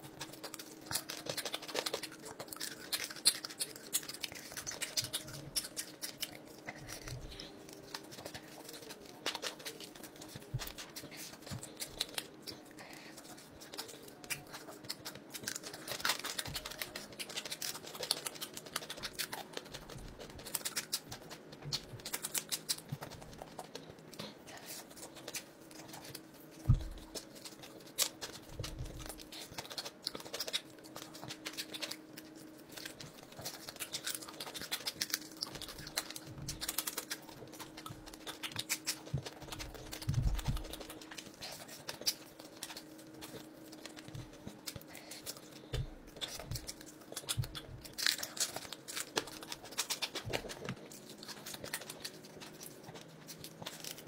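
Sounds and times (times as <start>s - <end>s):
chewing crisp fried fish: 0.0s - 54.0s.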